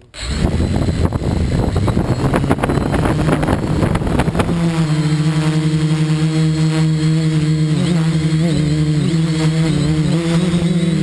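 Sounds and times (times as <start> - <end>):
drone propellers buzzing: 0.0 - 11.0.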